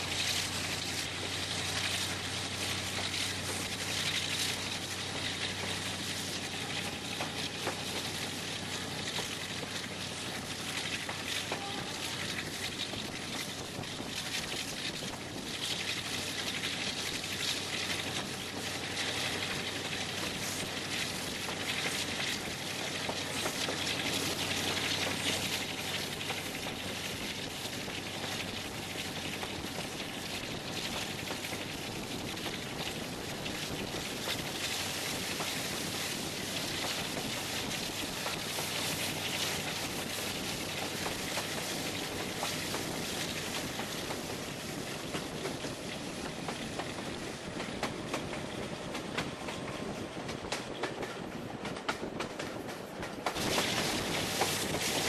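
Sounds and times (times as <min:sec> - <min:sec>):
diesel locomotive engine: 0:00.0 - 0:55.0
wind and wheel noise: 0:00.0 - 0:55.0.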